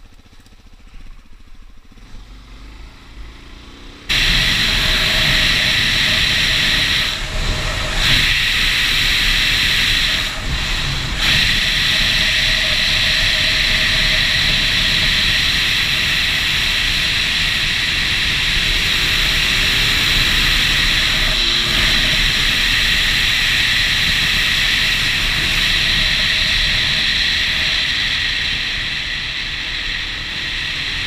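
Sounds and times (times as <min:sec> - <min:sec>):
motorcycle engine running: 0:00.0 - 0:31.0
wind rushing over microphone: 0:04.1 - 0:31.0.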